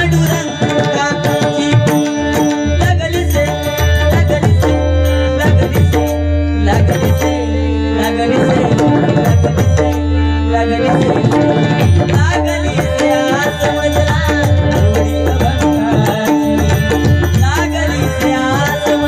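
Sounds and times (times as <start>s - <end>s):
harmonium: 0.0s - 19.0s
man singing: 0.0s - 19.0s.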